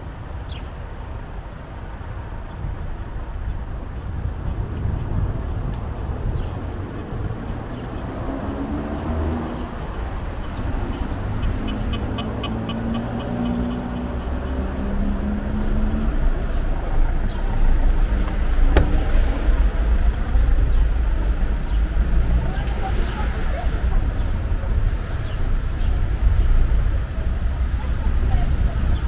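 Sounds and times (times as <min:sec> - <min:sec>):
cars running along street: 0:00.0 - 0:29.0.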